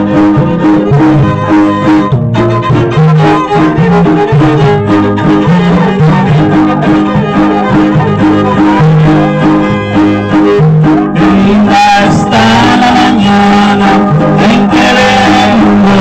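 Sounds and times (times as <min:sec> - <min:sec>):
repeating bass line: 0:00.0 - 0:16.0
strummed guitars: 0:00.0 - 0:16.0
violin melody: 0:00.0 - 0:16.0.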